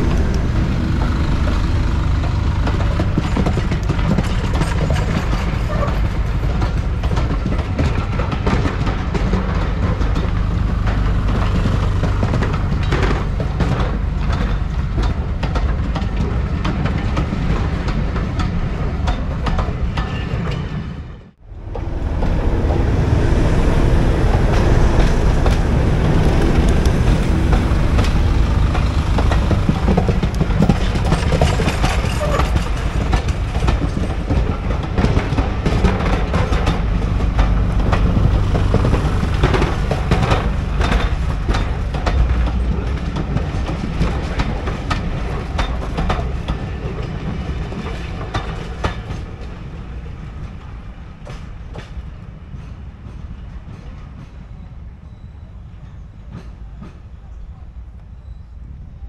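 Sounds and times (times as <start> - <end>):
wheels clicking over rail joints: 0.0 - 20.8, 21.5 - 54.6
diesel train rumble: 0.0 - 59.0.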